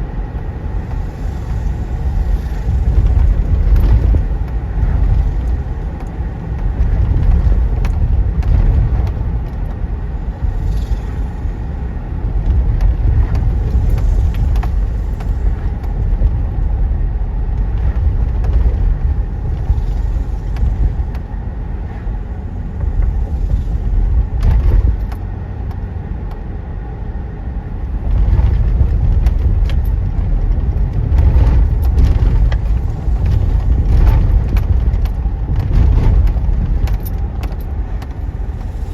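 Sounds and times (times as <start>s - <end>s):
freight train low rumble: 0.0s - 38.9s.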